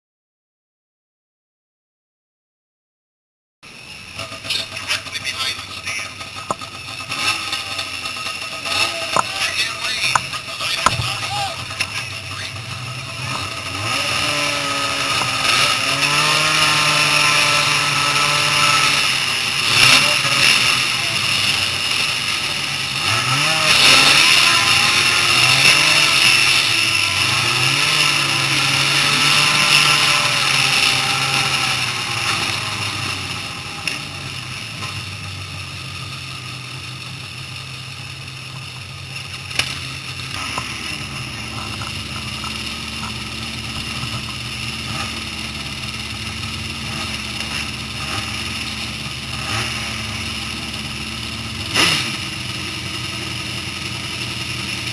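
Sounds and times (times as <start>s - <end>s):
snowmobile engine revving: 3.8s - 54.9s.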